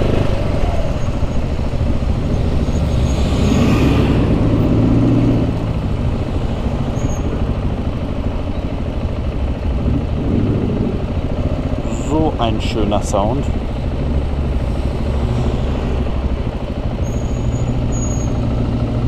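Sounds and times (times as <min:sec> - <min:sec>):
motorcycle engine rumble: 0:00.0 - 0:19.0
slow city traffic: 0:00.0 - 0:19.0.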